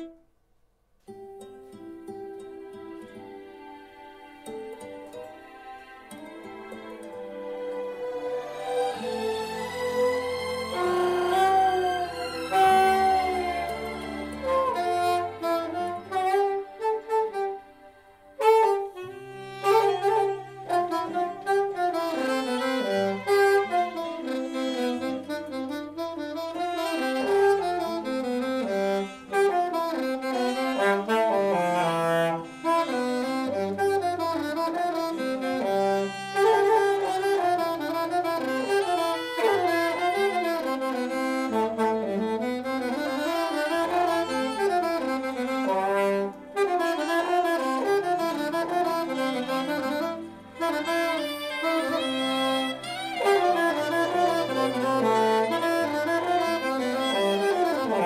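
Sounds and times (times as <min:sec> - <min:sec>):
alto saxophone jazzy melody: 0:00.0 - 0:00.3, 0:05.2 - 0:58.0.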